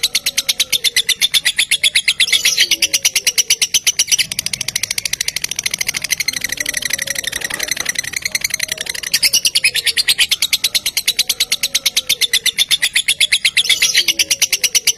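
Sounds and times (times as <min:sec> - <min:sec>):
lovebird chattering trill: 0:00.0 - 0:14.9.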